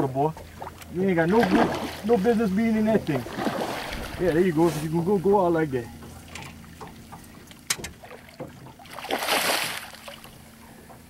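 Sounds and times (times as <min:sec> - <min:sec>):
water lapping around boat: 0:00.0 - 0:11.0
water splashing: 0:00.5 - 0:05.2, 0:05.9 - 0:10.5.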